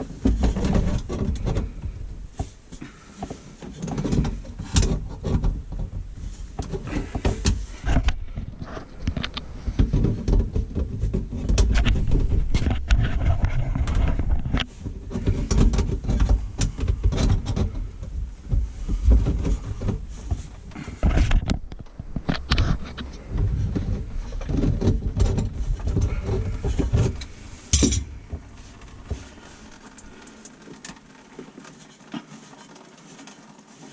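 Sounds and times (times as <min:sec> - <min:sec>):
low uneven rumble: 0:00.0 - 0:31.1
knocks and clicks on pipes: 0:03.7 - 0:31.0.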